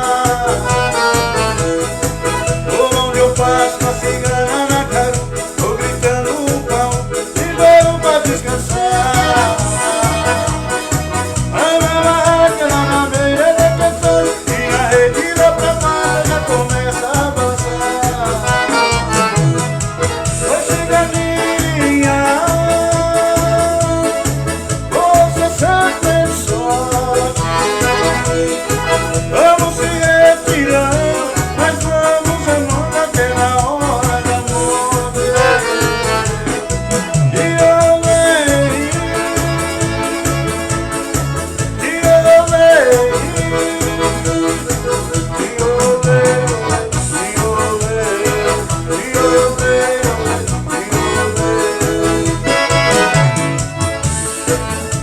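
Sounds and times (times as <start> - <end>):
person singing: 0.0 - 40.7, 41.8 - 53.7
accordion melody: 0.0 - 55.0
bass and percussion beat: 0.0 - 55.0.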